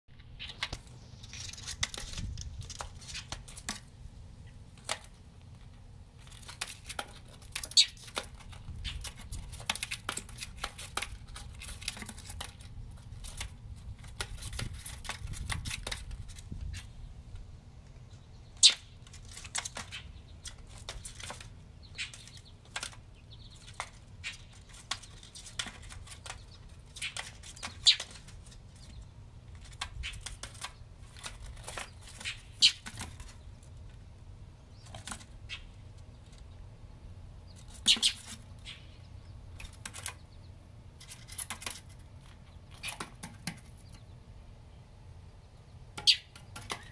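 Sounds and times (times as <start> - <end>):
claws scratching on siding: 0.4 - 4.0, 4.7 - 17.0, 18.6 - 36.5, 37.5 - 44.1.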